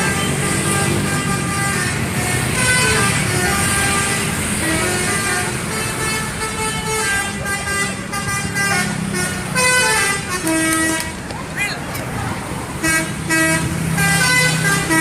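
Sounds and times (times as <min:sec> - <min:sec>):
bus musical horn tune: 0:00.0 - 0:11.2, 0:12.8 - 0:15.0
bus engine rumble: 0:00.0 - 0:15.0.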